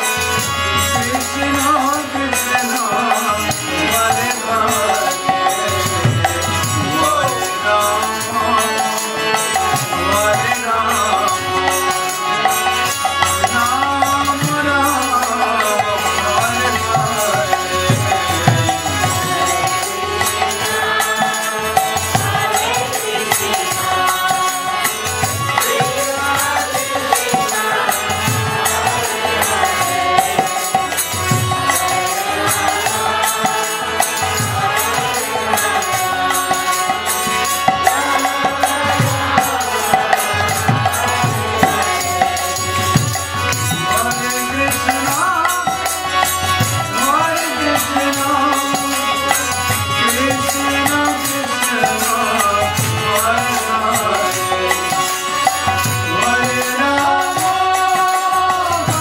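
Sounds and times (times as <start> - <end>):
harmonium: 0.0 - 59.0
man chanting devotional melody: 0.0 - 59.0.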